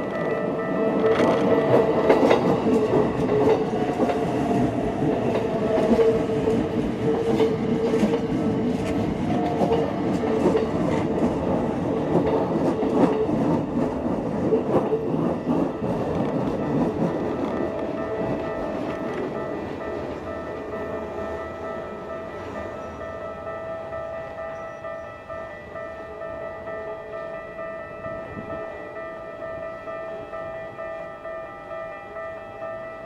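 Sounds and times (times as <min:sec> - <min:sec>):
level crossing warning bell: 0:00.0 - 0:33.0.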